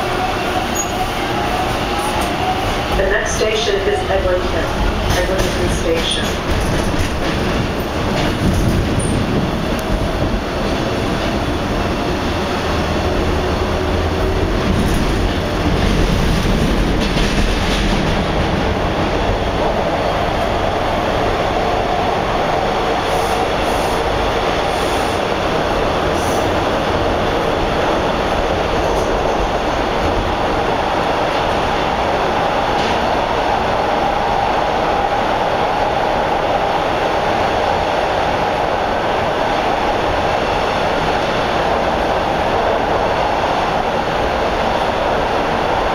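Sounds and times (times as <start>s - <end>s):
rail clicks: 0.0s - 45.9s
wheels rumbling on rail: 0.0s - 45.9s.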